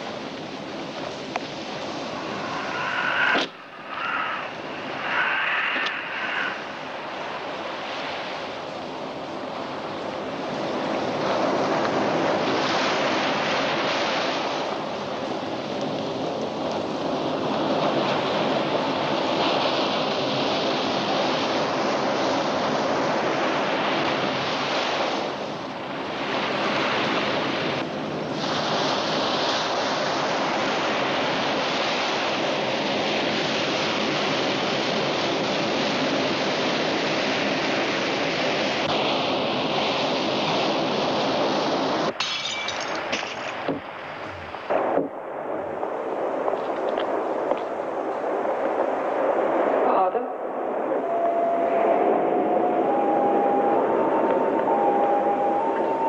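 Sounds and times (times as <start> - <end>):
steady rushing noise: 0.0 - 42.2, 43.0 - 56.0.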